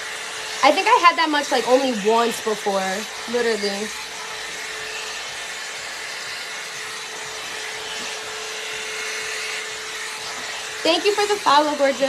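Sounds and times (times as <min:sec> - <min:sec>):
blow-dryer brush running: 0:00.0 - 0:12.0.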